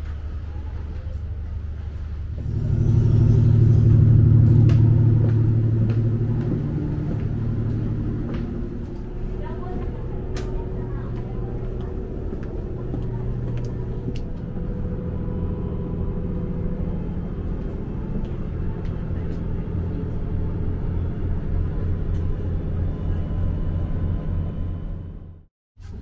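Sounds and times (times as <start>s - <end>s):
train cabin rumble: 0.0s - 25.4s.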